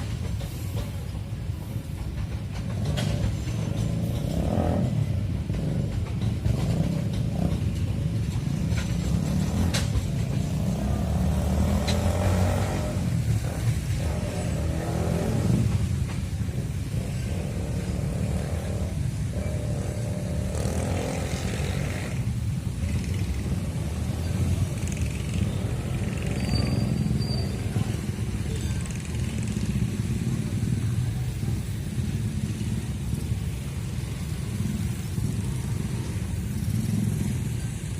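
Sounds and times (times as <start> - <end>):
freight train rumbling past: 0.0 - 37.9.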